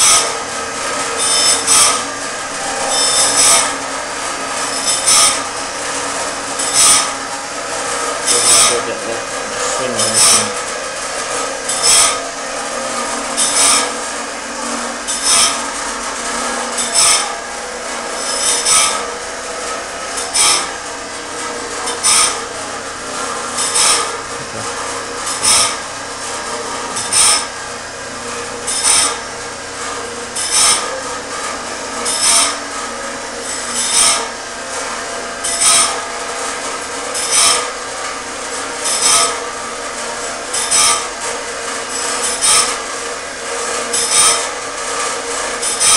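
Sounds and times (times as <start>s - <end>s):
electric motors running: 0.0s - 45.9s
grinding wheel grinding blade: 0.0s - 45.9s.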